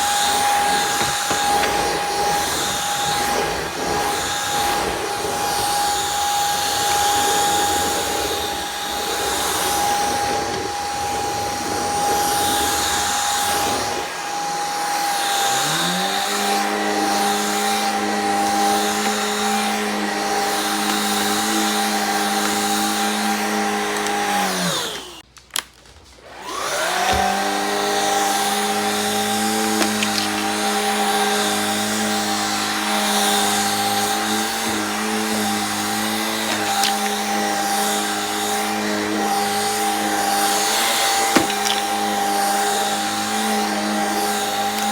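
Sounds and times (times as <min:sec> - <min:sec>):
vacuum cleaner motor whine: 0:00.0 - 0:25.2, 0:26.1 - 0:44.9.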